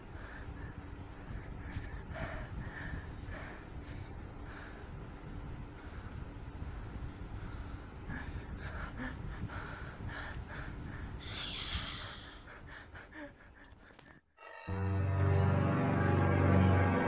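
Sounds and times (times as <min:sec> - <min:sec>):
heavy breathing: 0:00.0 - 0:14.3.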